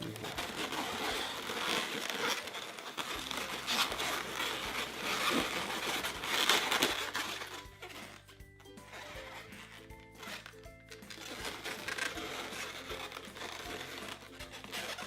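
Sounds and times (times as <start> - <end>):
balloons rubbing together: 0.0 - 15.0.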